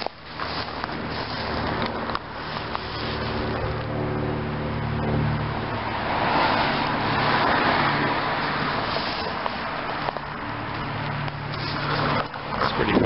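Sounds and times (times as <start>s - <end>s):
car driving past: 0.4s - 13.0s.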